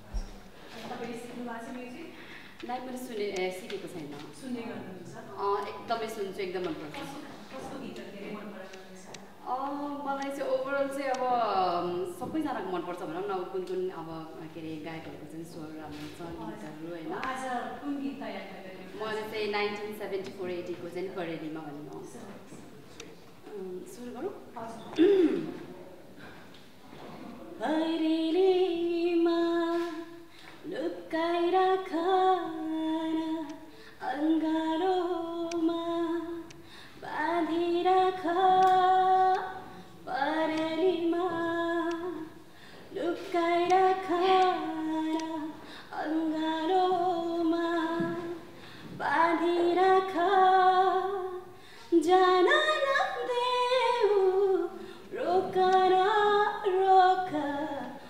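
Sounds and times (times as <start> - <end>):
woman singing unaccompanied: 2.7 - 22.3, 27.6 - 58.0.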